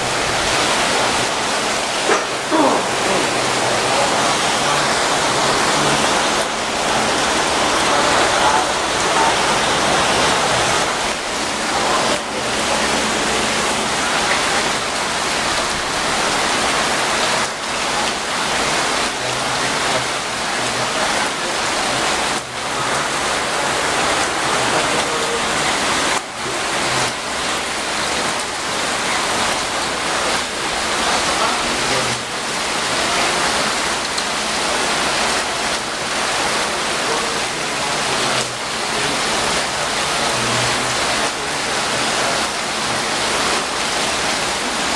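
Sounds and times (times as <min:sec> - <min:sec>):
heavy rain and wind: 0:00.0 - 0:44.9.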